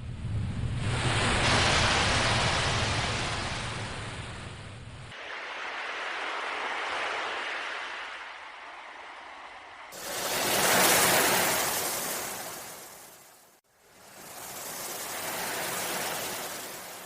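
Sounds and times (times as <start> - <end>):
ocean waves breaking: 0.6 - 17.0.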